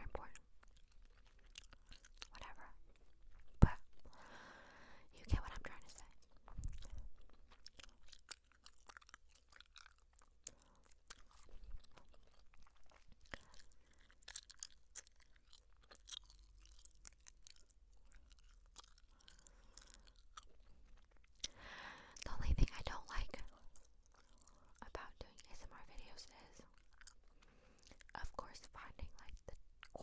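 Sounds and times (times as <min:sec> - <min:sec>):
chewing gum mouth clicks: 0:00.2 - 0:04.2, 0:05.8 - 0:28.5, 0:29.2 - 0:30.0.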